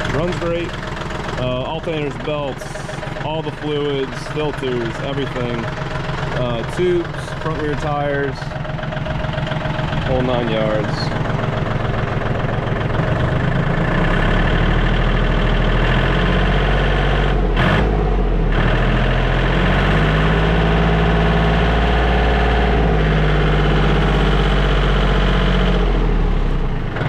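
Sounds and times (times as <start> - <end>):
tractor diesel engine idling: 0.0 - 27.0.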